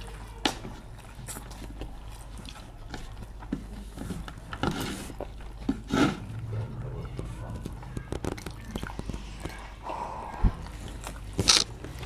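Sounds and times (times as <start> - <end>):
people chewing and biting: 0.0 - 12.0.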